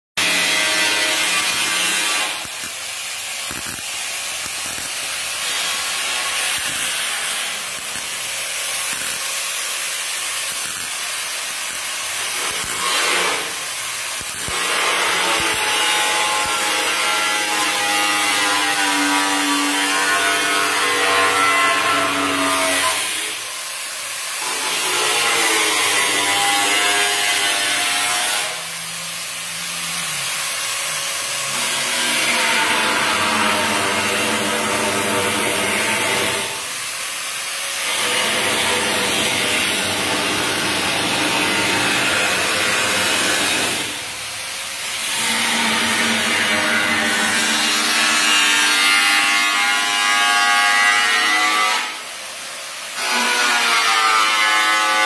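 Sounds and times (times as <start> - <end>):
grinder whining: 0.2 - 52.1
welder sizzling: 0.2 - 55.0.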